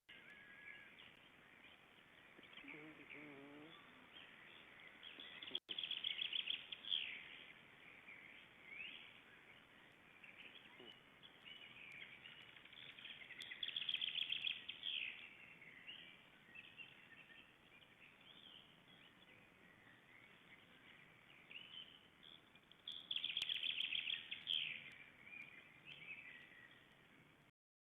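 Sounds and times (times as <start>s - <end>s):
faint bird chirps: 0.1s - 27.4s.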